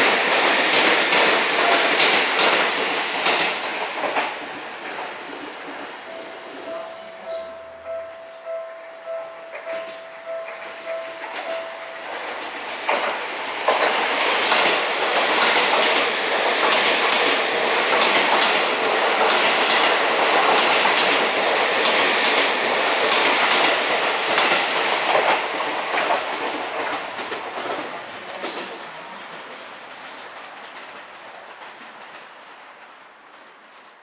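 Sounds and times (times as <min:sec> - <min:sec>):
train wheels clacking over rail joints: 0:00.0 - 0:05.9, 0:09.6 - 0:34.0.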